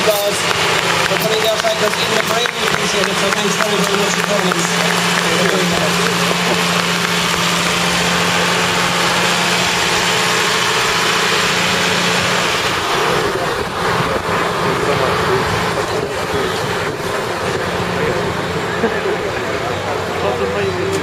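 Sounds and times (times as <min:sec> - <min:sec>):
crowd chatter: 0:00.0 - 0:21.0
tractor diesel engine running: 0:00.0 - 0:21.0.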